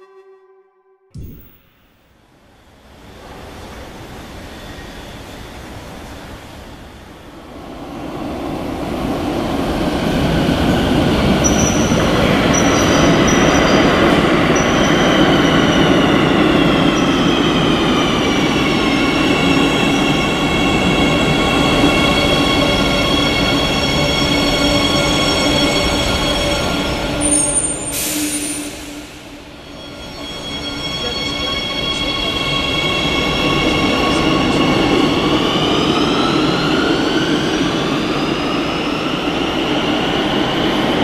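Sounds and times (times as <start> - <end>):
train braking whine: 0.0 - 7.3, 9.8 - 41.0
train wheels rumbling on rails: 3.1 - 41.0.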